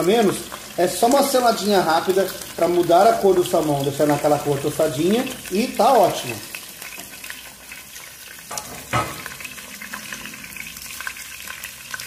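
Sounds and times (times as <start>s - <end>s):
fish sizzling in oil: 0.0s - 12.0s
oil popping: 0.0s - 12.0s.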